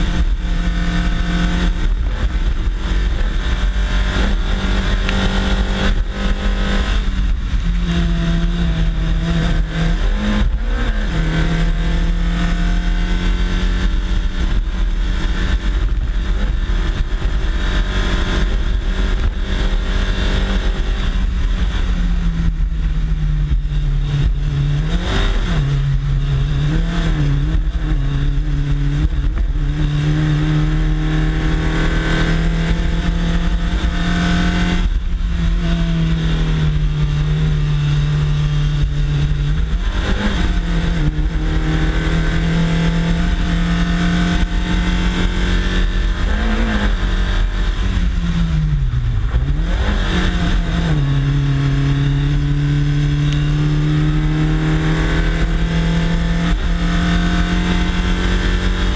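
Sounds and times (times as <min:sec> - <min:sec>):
race car engine pulling hard: 0:00.0 - 0:58.9
wind and road noise rumble: 0:00.0 - 0:58.9.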